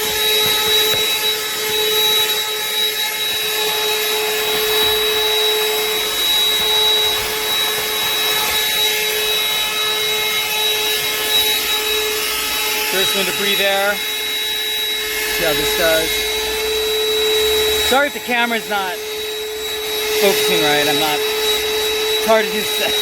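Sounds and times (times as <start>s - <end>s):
handheld vacuum running: 0.0s - 23.0s.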